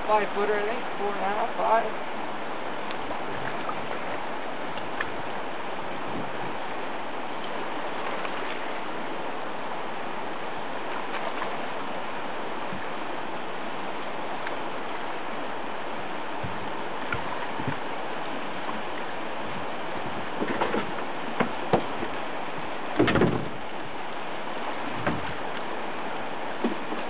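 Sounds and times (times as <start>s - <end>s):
fast-flowing river water: 0.0s - 27.0s.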